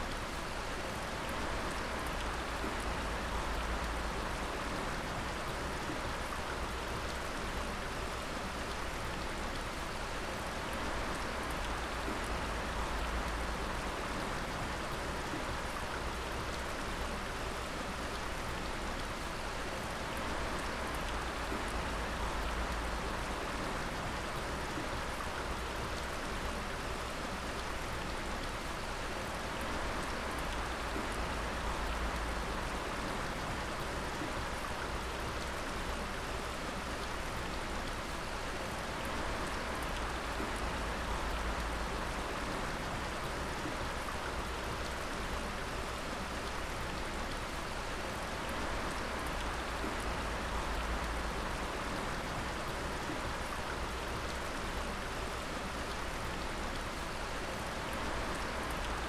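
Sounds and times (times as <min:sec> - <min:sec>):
water dripping and pattering: 0:00.1 - 0:59.0.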